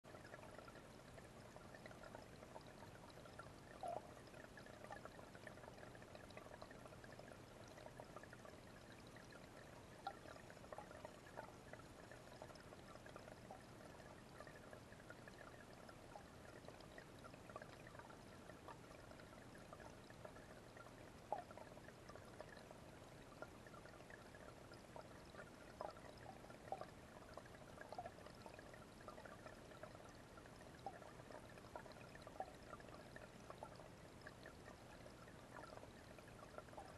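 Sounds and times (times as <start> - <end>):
water dripping: 0.1 - 36.9.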